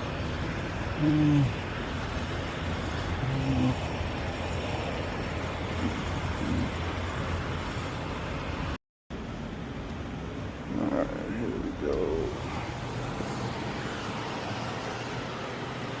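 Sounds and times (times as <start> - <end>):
road noise: 0.0 - 16.0
truck diesel engine hum: 0.0 - 16.0.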